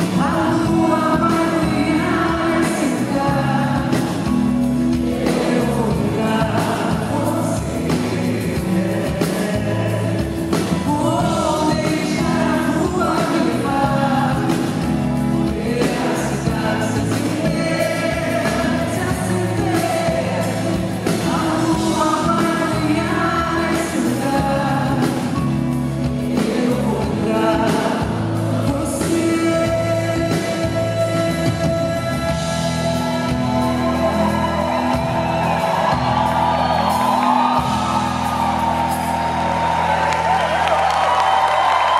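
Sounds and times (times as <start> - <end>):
woman singing pop song: 0.0 - 34.8.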